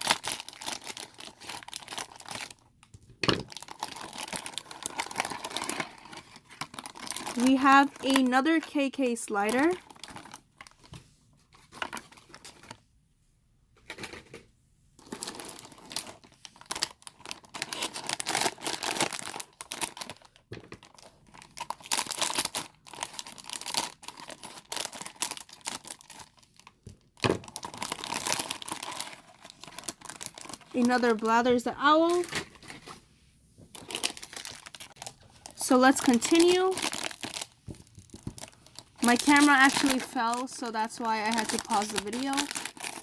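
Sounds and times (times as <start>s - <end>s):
wrapper crinkling: 0.0s - 2.7s, 3.4s - 10.8s, 15.0s - 33.0s, 33.7s - 43.0s.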